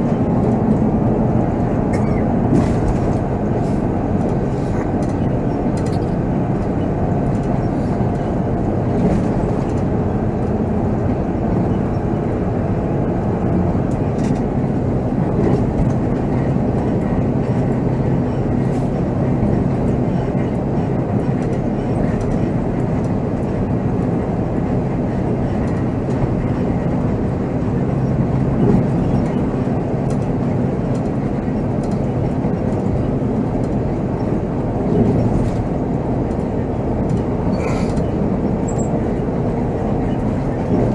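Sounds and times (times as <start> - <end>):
diesel engine and road noise: 0.0 - 40.9.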